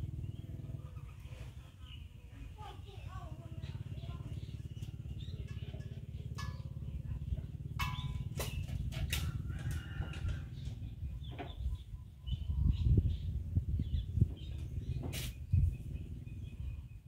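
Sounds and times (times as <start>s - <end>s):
steady low rumble: 3.1s - 17.0s.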